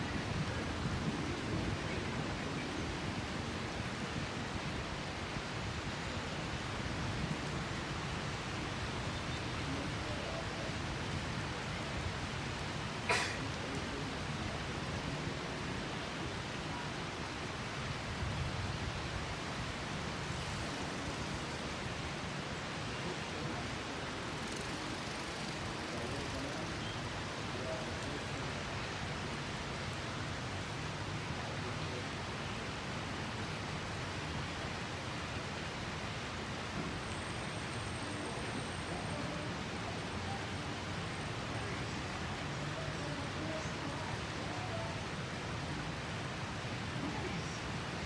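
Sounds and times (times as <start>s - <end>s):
steady rain hissing: 0.0s - 48.0s.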